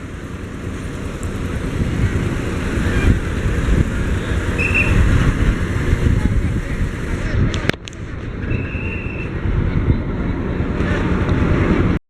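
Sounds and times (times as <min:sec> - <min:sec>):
road vehicles rumbling: 0:00.0 - 0:12.0.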